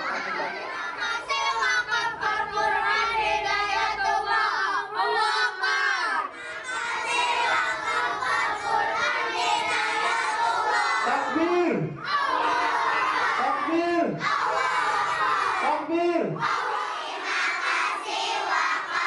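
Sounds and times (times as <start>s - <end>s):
children chanting in unison: 0.0s - 19.0s.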